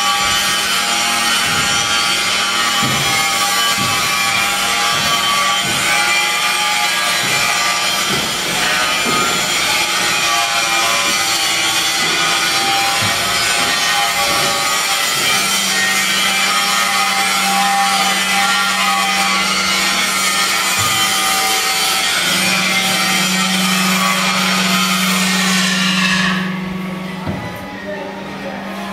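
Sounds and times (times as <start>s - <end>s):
baler machine grinding and scraping: 0.0s - 28.9s.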